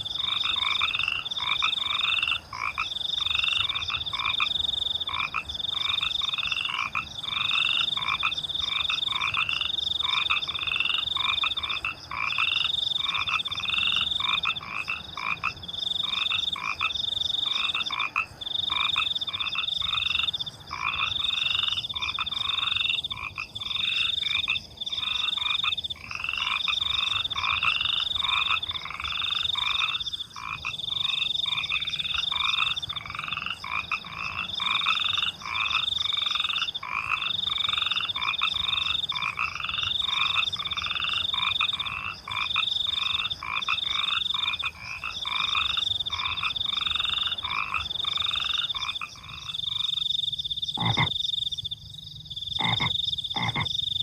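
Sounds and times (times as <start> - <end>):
crickets chirping: 0.0 - 54.0
frogs croaking: 0.0 - 54.0.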